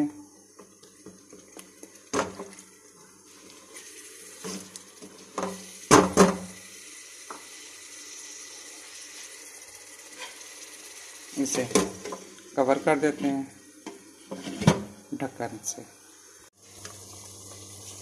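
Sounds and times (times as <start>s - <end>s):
faint sizzle: 0.0s - 18.0s.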